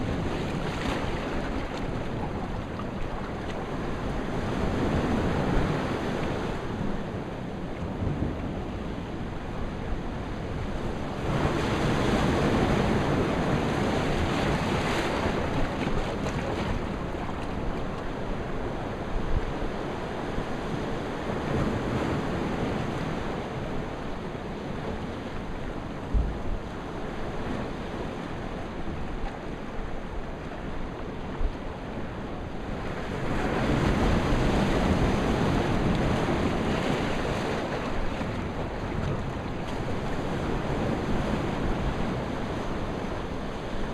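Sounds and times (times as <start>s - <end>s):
waves washing over rocks: 0.0s - 43.9s
wind buffeting microphone: 0.0s - 43.9s.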